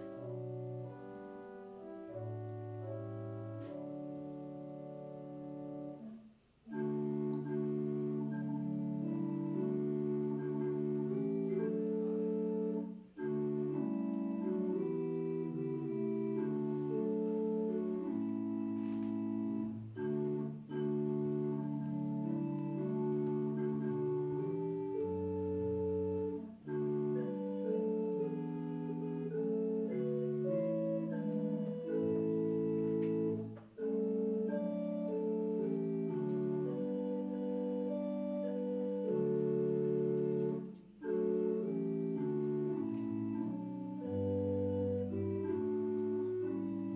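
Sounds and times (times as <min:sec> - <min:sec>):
organ playing held chords: 0:00.0 - 0:46.9.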